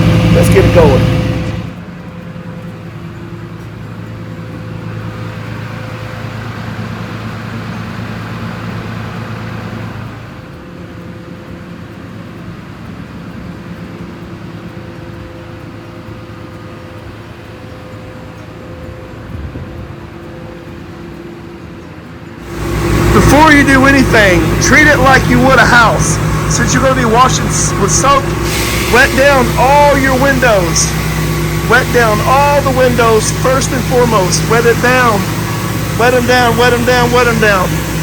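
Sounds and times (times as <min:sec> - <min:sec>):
engine humming steadily: 0:00.0 - 0:38.0.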